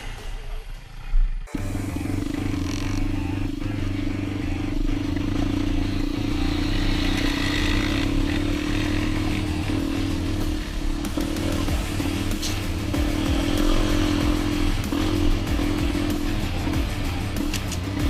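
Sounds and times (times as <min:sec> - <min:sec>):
dirt bike engine running: 0:01.4 - 0:18.0.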